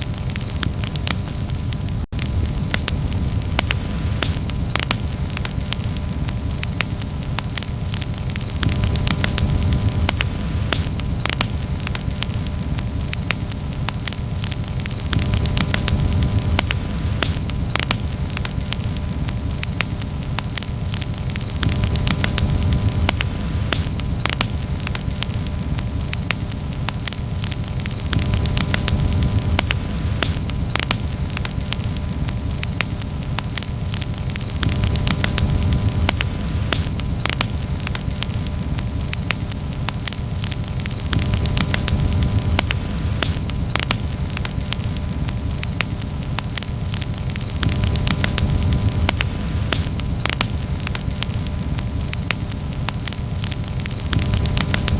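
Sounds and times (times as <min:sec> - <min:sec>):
campfire crackling and popping: 0:00.0 - 0:54.9
low rumble of fire: 0:00.0 - 0:54.9.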